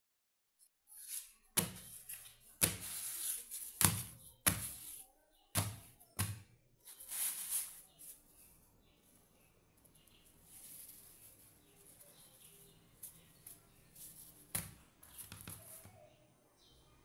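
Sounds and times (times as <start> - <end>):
flatbread rustling: 0.6 - 8.7, 9.9 - 16.1.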